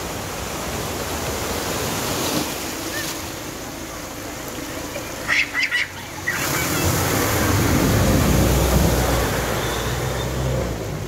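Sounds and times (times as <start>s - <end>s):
water rushing and spraying: 0.0s - 11.0s.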